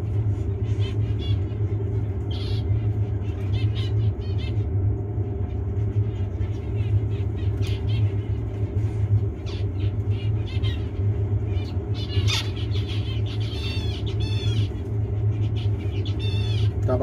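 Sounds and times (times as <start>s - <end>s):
buzzy birdsong notes: 0.0s - 17.0s
steady low hum: 0.0s - 17.0s
finches chirping: 0.1s - 17.0s.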